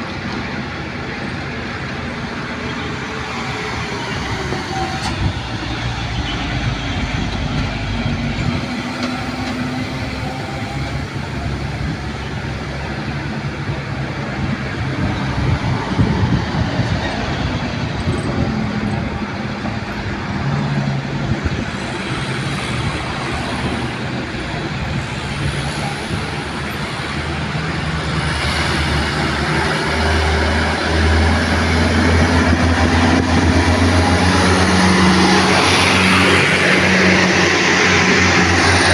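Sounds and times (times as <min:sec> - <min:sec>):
road traffic noise: 0:00.0 - 0:38.9
truck diesel engines labouring: 0:00.0 - 0:38.9.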